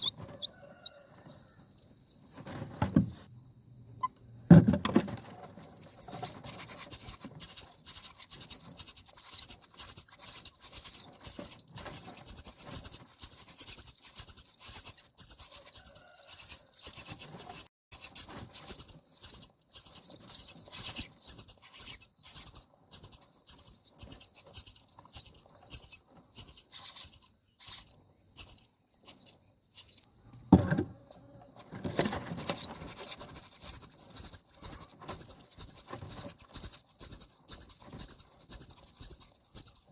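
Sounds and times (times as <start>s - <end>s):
nestlings begging calls: 0.0s - 3.3s, 4.8s - 39.9s.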